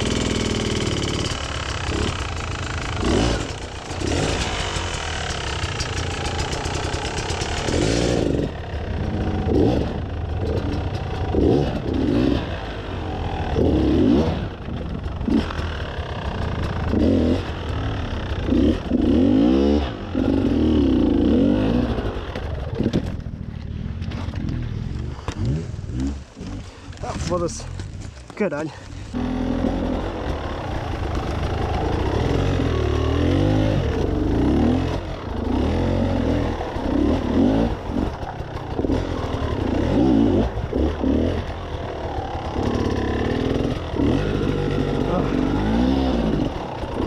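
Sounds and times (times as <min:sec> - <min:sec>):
dirt bike engine revving: 0:00.0 - 0:27.8, 0:28.5 - 0:47.0.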